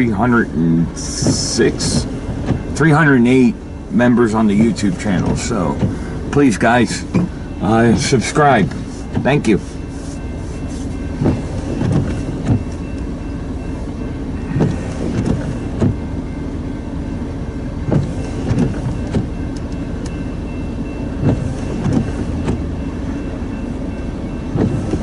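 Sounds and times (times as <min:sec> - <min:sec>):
train rail rumble: 0:00.0 - 0:25.0.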